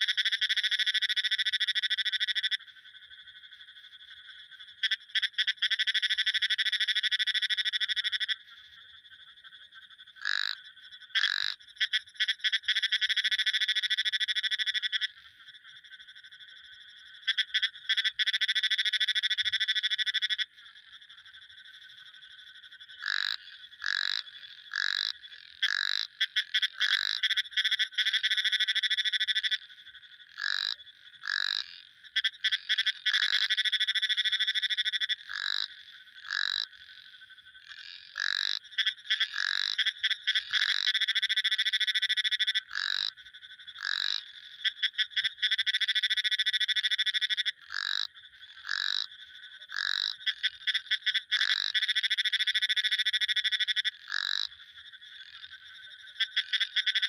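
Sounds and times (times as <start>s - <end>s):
frogs rapid rattling trills: 0.0s - 57.0s
frogs short high-pitched calls: 0.0s - 57.0s.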